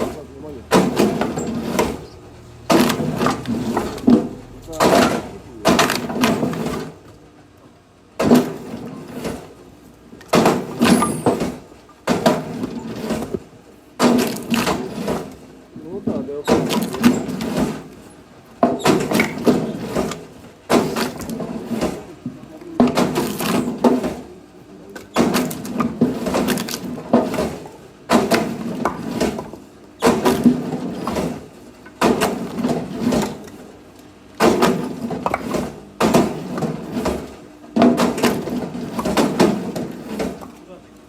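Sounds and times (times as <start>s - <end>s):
axe splitting firewood: 0.0s - 2.1s, 2.7s - 7.0s, 8.2s - 9.6s, 10.2s - 18.0s, 18.6s - 24.3s, 25.0s - 33.6s, 34.4s - 40.6s.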